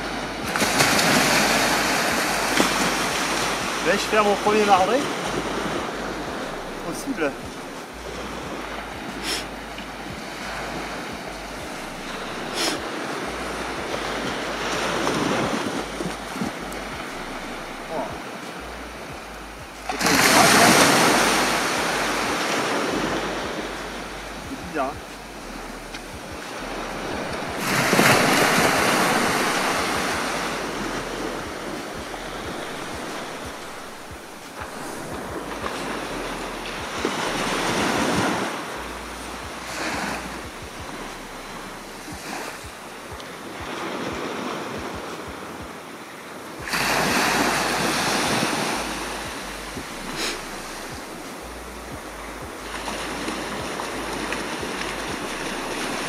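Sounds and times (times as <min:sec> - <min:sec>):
waves crashing on a beach: 0:00.0 - 0:56.0
wind buffeting microphone: 0:05.0 - 0:56.0.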